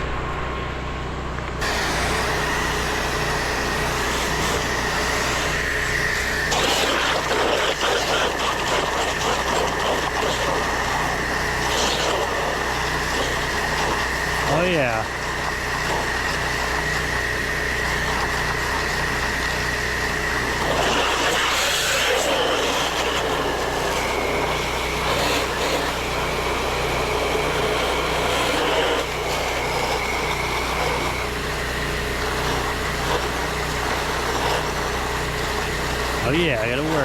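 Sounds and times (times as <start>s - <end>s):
pressure washer engine running: 0.0s - 37.0s.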